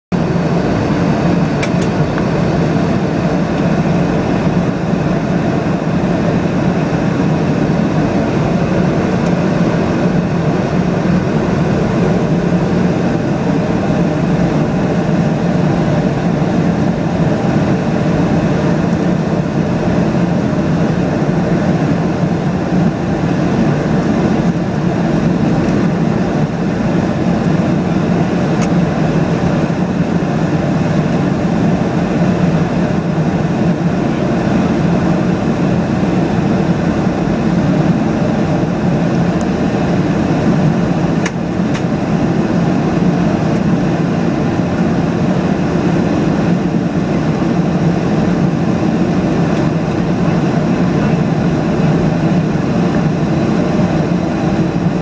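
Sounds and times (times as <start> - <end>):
jet engine drone in cabin: 0.1 - 55.0
rushing airflow: 0.2 - 55.0.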